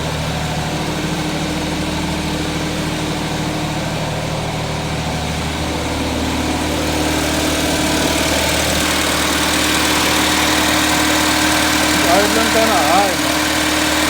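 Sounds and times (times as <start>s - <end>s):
car engine idling high: 0.0s - 14.0s.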